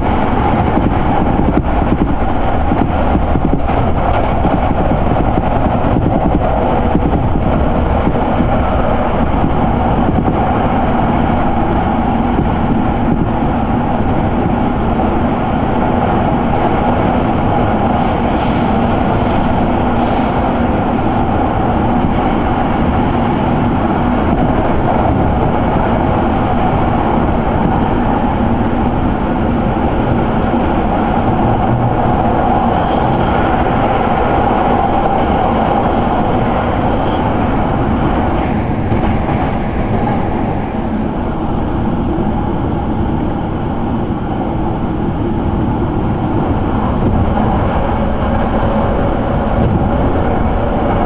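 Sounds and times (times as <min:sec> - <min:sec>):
train wheels on rail rumble: 0:00.0 - 0:51.0.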